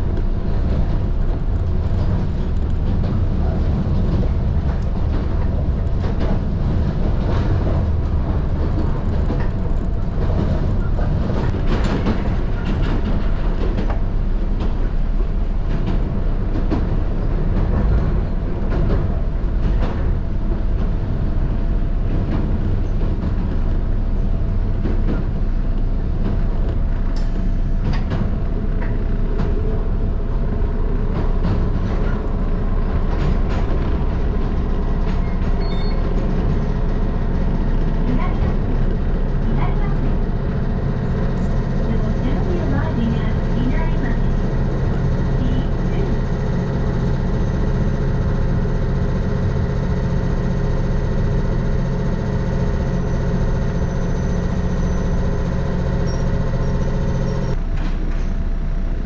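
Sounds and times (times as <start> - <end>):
rail joint clicks: 0.0 - 58.6
train wheels rumbling on rail: 0.0 - 59.0.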